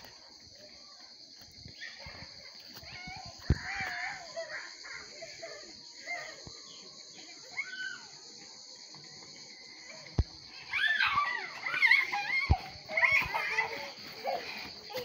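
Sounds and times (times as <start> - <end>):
children calling and shouting: 0.0 - 15.0
high insect chorus: 0.0 - 15.0.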